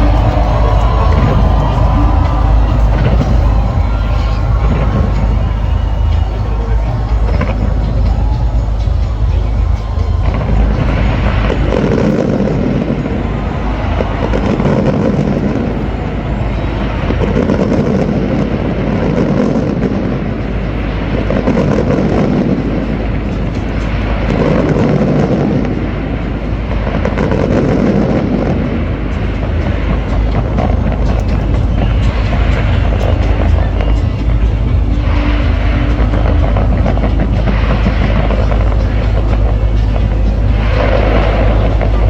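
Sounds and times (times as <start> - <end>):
fireworks exploding rumble: 0.0 - 42.0.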